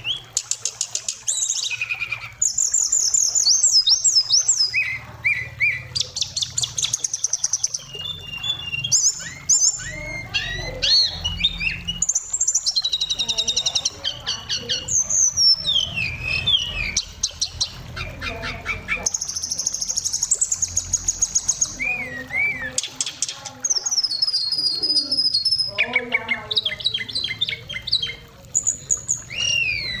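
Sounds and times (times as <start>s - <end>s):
bird singing varied song: 0.0s - 30.0s.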